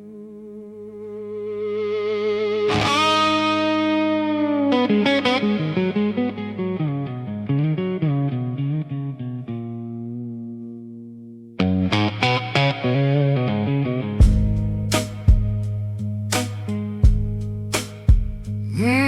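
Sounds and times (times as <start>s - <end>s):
blues guitar picking: 0.0s - 19.0s.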